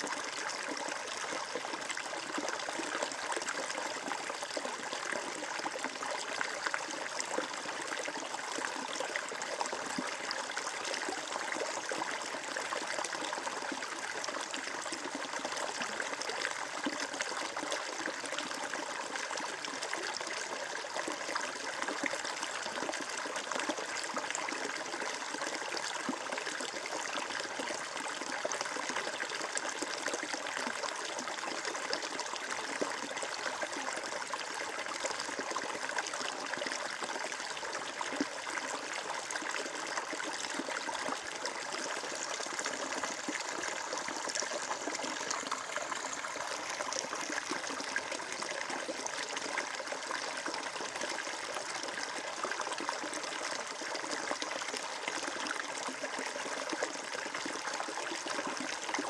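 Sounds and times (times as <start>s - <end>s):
water trickling and babbling: 0.0s - 59.0s.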